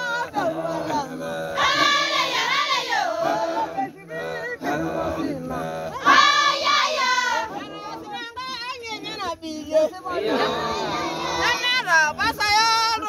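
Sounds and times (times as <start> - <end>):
high voices singing: 0.0 - 12.6
lower voices singing: 0.0 - 12.6.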